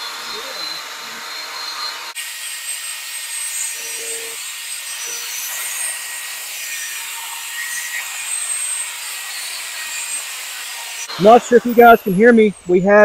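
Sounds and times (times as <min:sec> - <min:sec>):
electric drill motor whine: 0:00.0 - 0:12.7
sandpaper hissing: 0:00.0 - 0:13.0.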